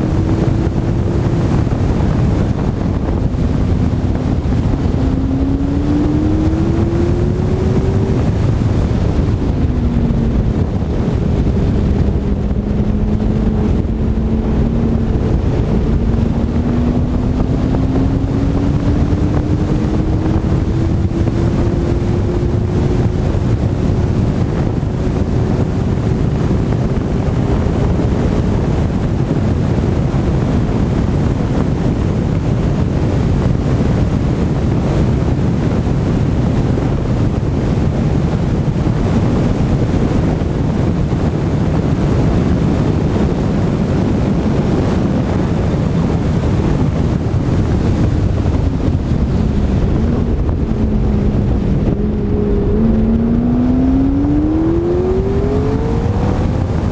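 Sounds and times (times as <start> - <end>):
car engine: 0.0 - 56.9
heavy wind buffeting microphone: 0.0 - 56.9.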